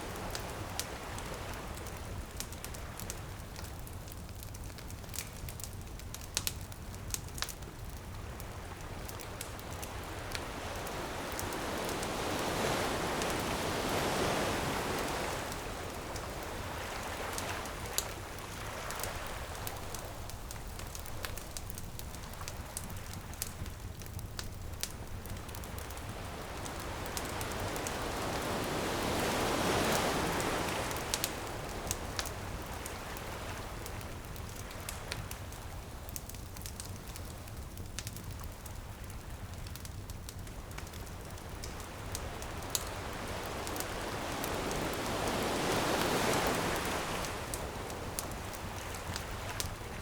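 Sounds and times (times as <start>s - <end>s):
ocean waves on a beach: 0.0s - 4.3s, 7.3s - 35.9s, 39.8s - 50.0s
bonfire crackling and popping: 0.0s - 50.0s.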